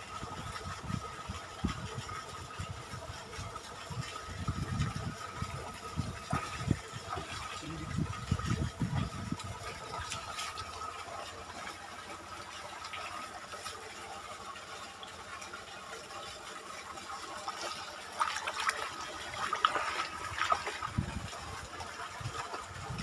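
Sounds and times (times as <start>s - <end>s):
water running along furrow: 0.0s - 23.0s
water splashes: 0.0s - 23.0s.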